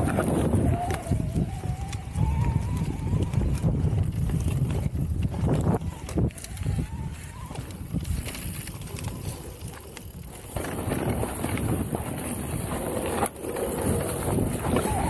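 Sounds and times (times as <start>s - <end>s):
tyres rolling over dirt trail: 0.0s - 15.0s
wind buffeting microphone: 0.0s - 15.0s.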